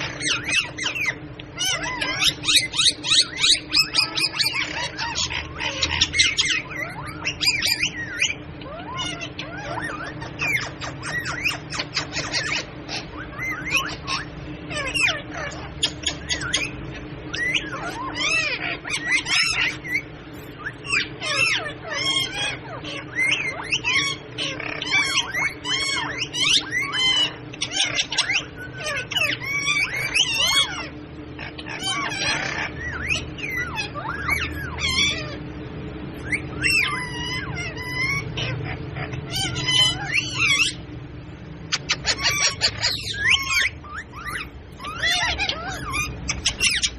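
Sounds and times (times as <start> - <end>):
parrots chattering and squawking: 0.0 - 46.9.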